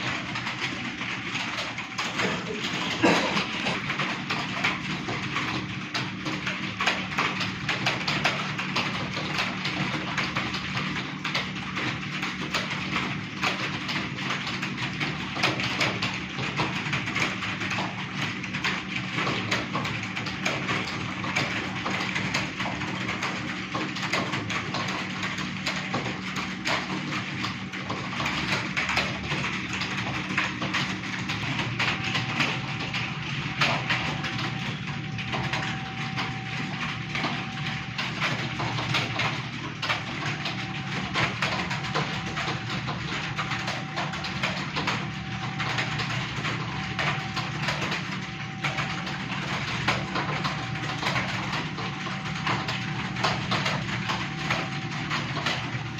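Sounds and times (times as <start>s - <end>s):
low electrical hum: 0.0s - 55.9s
rapid keyboard typing: 0.0s - 55.9s.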